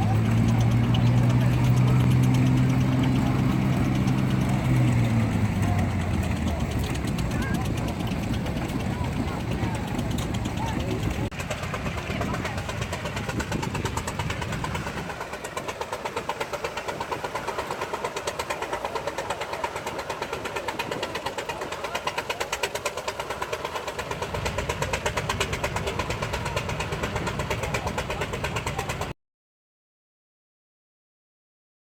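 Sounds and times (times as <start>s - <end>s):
tractor engine running: 0.0s - 29.1s.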